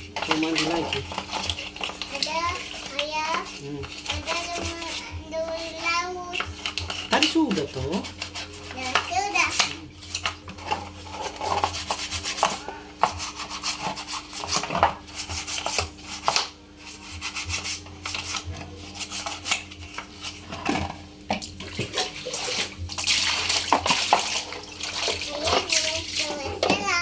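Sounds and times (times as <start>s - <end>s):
water sloshing in a tub: 0.0s - 16.0s, 18.3s - 27.0s
scrubbing and rubbing: 0.0s - 27.0s.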